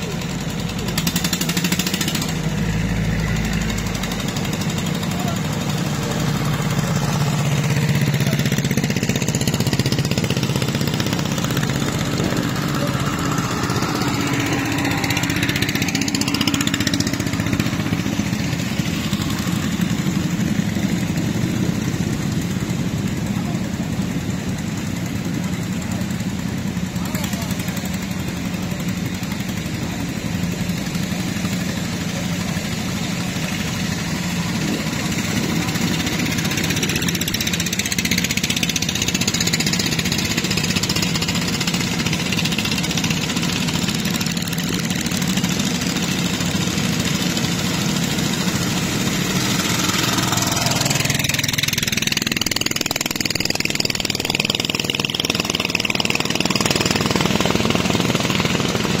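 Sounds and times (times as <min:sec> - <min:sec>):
boat engine running: 0:00.0 - 0:59.0
passing boat engine: 0:00.0 - 0:59.0
water rushing along hull: 0:00.0 - 0:59.0.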